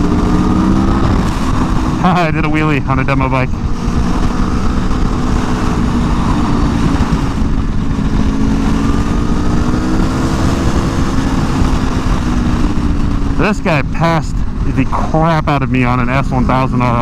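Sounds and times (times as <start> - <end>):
motorcycle engine running: 0.0 - 17.0
wind rush: 0.0 - 17.0.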